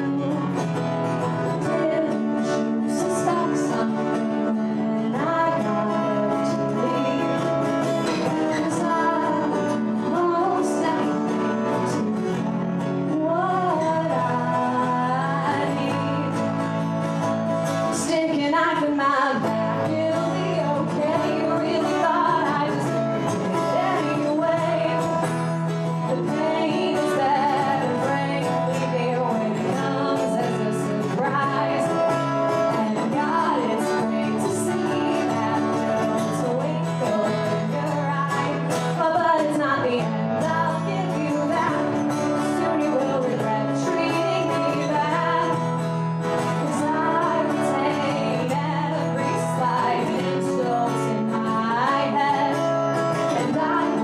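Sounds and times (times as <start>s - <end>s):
acoustic guitars playing: 0.0s - 54.0s
woman singing: 0.0s - 54.0s.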